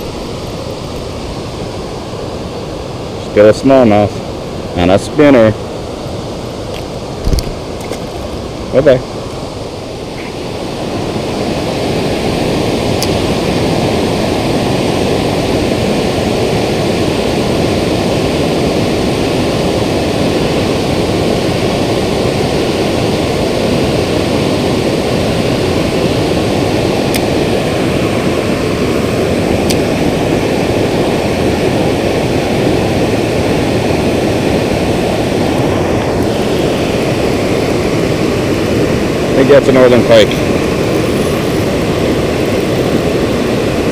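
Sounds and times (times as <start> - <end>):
fast-flowing river water rushing: 0.0 - 43.9.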